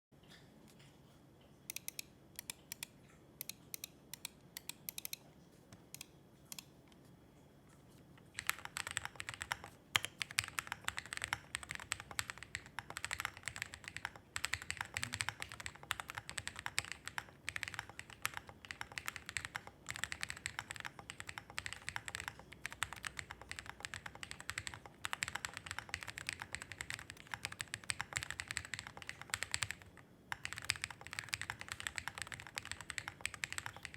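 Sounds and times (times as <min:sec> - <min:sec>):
mechanical keyboard typing: 0:01.7 - 0:05.2, 0:08.3 - 0:33.9.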